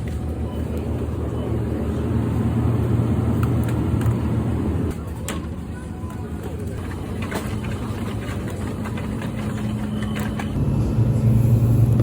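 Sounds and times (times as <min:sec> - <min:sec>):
low engine hum: 0:00.0 - 0:05.1, 0:05.7 - 0:12.0.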